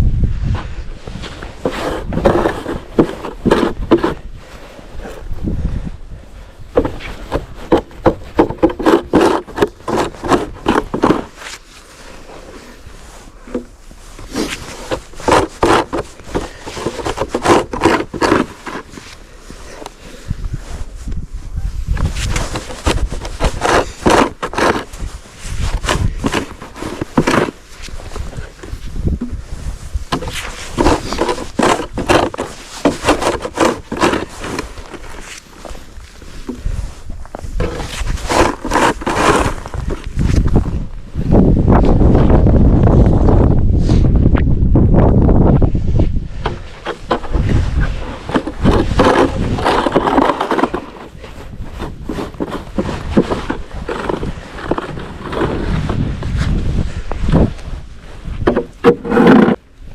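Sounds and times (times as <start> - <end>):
wind rumble on microphone: 0.0 - 11.4, 12.6 - 59.9
snow being scraped off surface: 1.0 - 5.2, 6.8 - 20.9, 22.0 - 40.6, 45.9 - 59.6.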